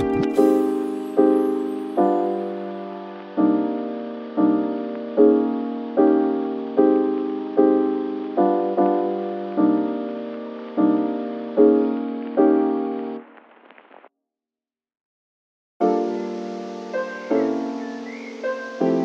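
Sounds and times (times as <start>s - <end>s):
slow piano chords: 0.0s - 13.2s, 15.8s - 19.0s.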